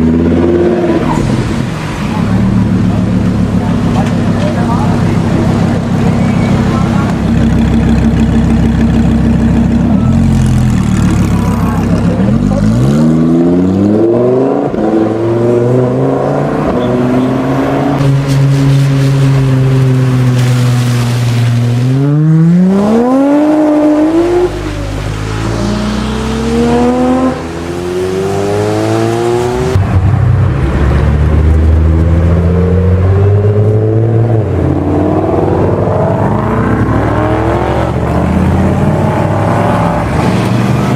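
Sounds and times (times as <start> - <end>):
sports car engines revving: 0.0 - 40.9.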